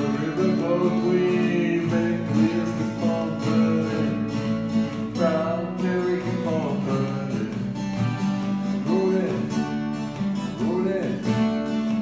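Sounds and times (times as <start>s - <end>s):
acoustic guitar strumming: 0.0s - 12.0s
man singing: 0.0s - 12.0s.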